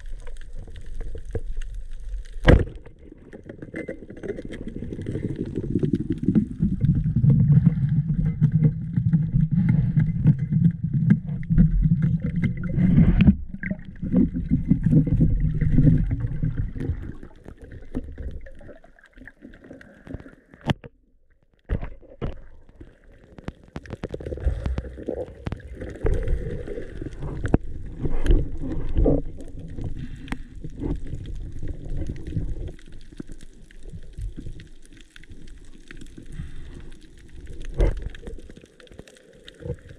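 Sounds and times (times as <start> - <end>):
muffled underwater rumble: 0.0 - 18.8, 21.7 - 39.9.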